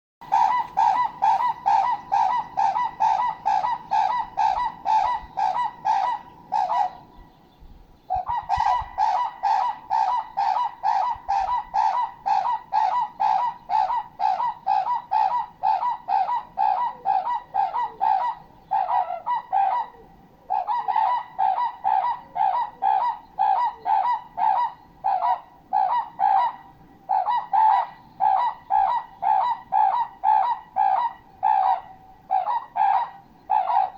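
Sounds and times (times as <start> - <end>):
bird honking: 0.2 - 7.4, 8.1 - 33.9.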